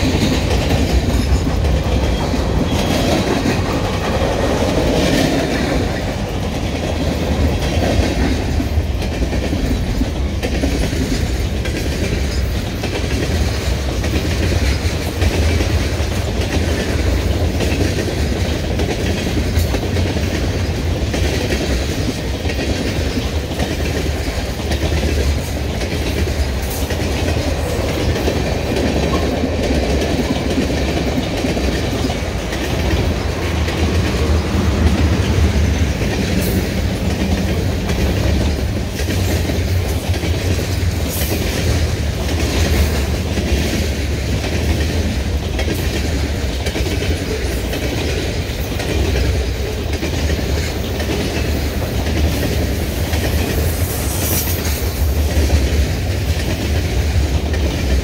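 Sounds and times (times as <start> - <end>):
freight train rolling past: 0.0 - 58.0
wheels clicking over rail joints: 0.0 - 58.0.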